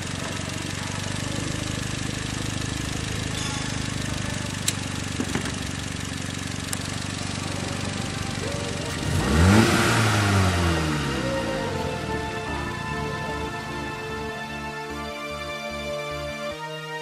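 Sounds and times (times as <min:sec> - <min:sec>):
car engine idling: 0:00.0 - 0:16.4.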